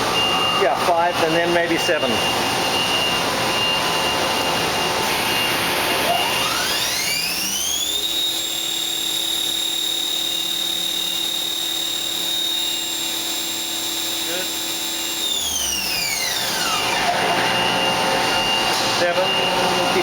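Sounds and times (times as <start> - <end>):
machine spindle whine: 0.0 - 20.0.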